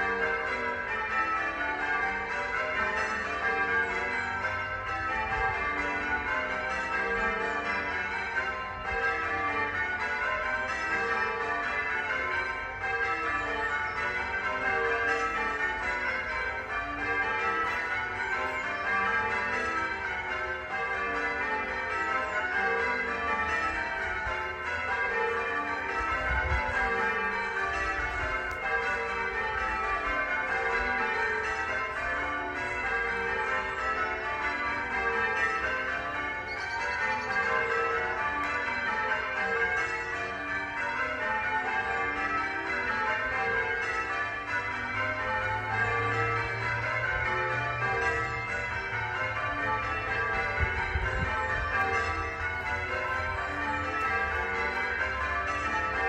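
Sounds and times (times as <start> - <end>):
church bells ringing: 0.0 - 56.0.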